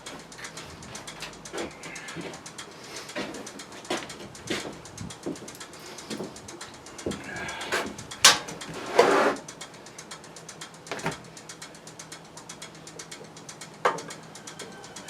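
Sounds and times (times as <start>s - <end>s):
fast steady ticking: 0.0s - 15.0s.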